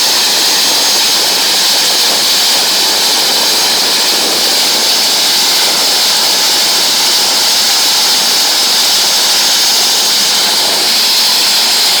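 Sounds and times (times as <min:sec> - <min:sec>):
helicopter turbine engine running: 0:00.0 - 0:12.0.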